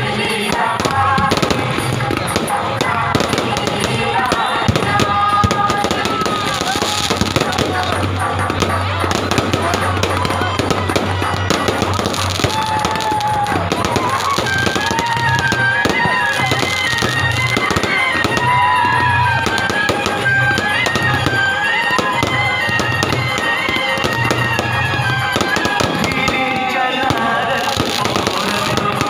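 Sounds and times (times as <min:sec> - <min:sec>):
fireworks crackling and banging: 0:00.0 - 0:29.0
reedy melody: 0:00.0 - 0:29.0.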